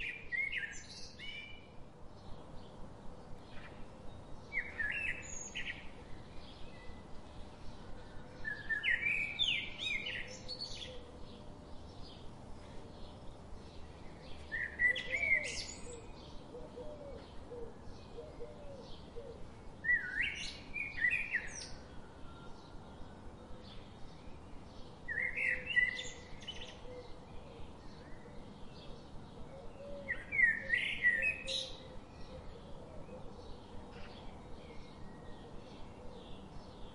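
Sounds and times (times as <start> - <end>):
faint background noise: 0.0 - 36.9
songbird chirping: 0.0 - 36.9.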